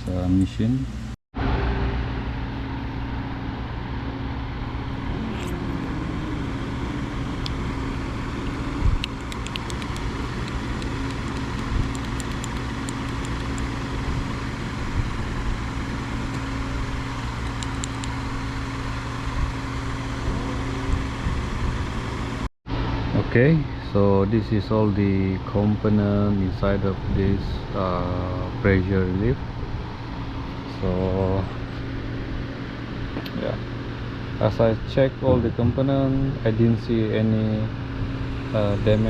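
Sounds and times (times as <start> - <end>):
engine drone: 0.0 - 39.0.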